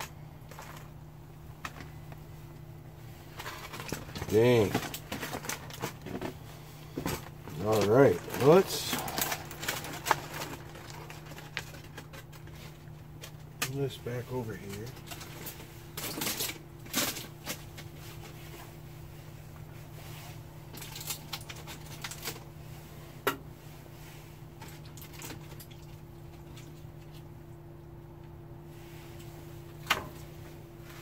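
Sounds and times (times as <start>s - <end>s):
aluminium foil rustling: 0.0s - 2.1s, 3.1s - 23.0s, 23.8s - 27.2s
steady low hum: 0.0s - 31.0s.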